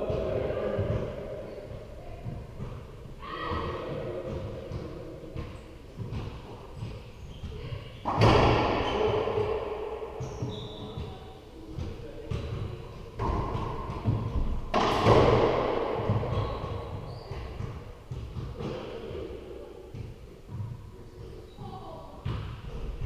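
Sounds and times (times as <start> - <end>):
racquetball hits echoing in court: 0.0 - 20.8, 21.6 - 23.0.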